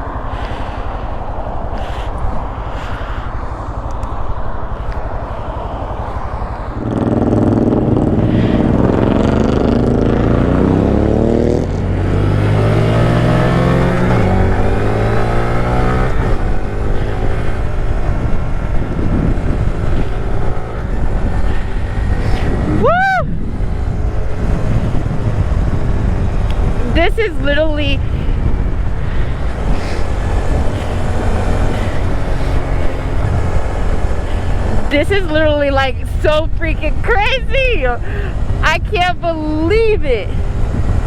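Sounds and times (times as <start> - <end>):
motorcycle engine accelerating: 0.0 - 41.0
wind rush on microphone: 0.0 - 41.0.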